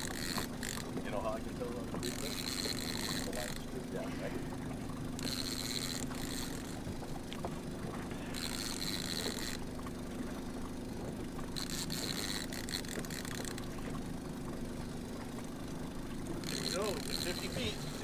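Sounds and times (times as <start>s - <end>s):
boat motor humming: 0.0s - 18.0s
fishing reel cranking: 0.0s - 18.0s.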